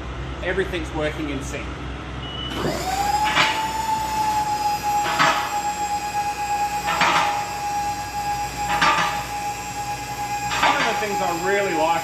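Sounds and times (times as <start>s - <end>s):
lift power unit whining: 0.0s - 12.0s.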